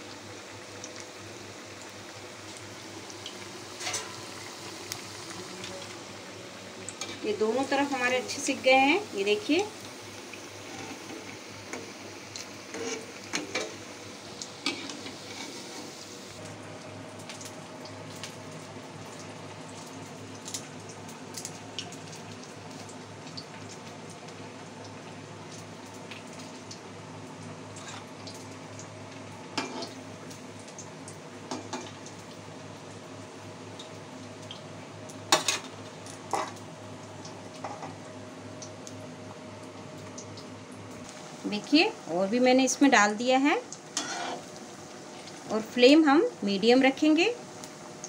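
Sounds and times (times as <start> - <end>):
hot oil sizzling: 0.0 - 48.0.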